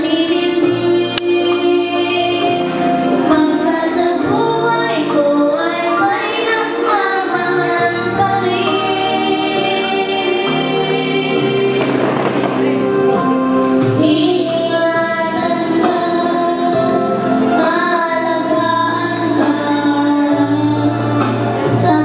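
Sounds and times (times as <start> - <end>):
girls singing into microphones: 0.0 - 22.0
musical accompaniment: 0.0 - 22.0.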